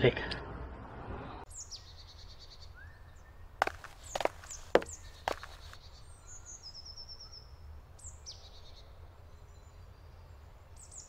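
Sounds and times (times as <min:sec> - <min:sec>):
small birds chirping: 0:01.5 - 0:11.0.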